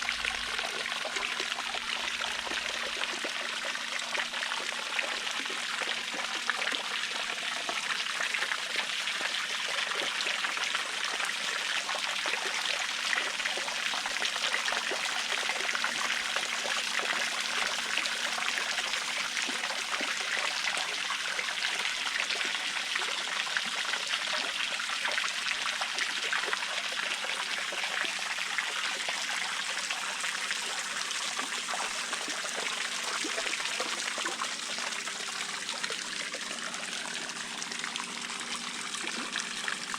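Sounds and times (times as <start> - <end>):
pool waterfall pouring and splashing: 0.0 - 39.9.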